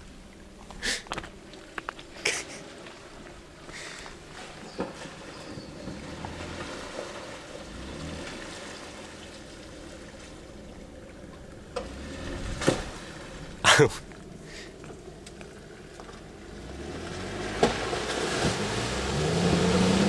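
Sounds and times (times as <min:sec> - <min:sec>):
car engine rumbling: 0:00.0 - 0:20.0
mud and water sloshing: 0:00.0 - 0:20.0.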